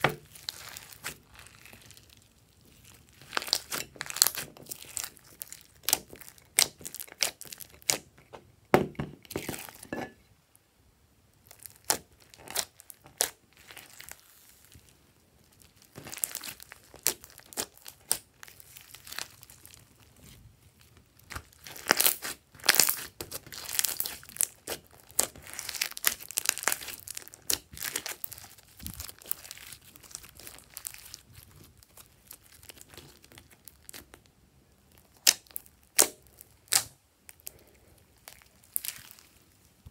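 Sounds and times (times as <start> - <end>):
slime crackling and popping: 0.0 - 8.3, 11.4 - 34.3, 34.9 - 39.9.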